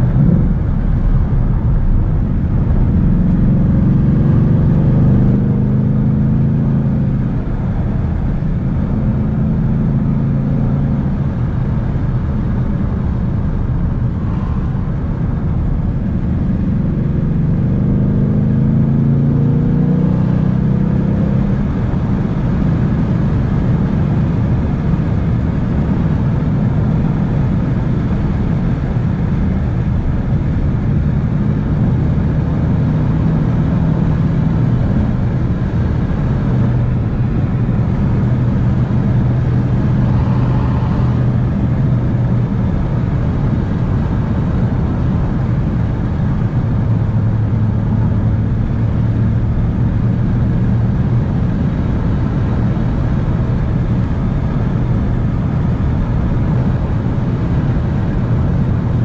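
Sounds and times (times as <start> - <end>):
car engine running: 0.0 - 59.0
road noise rush: 0.0 - 59.0.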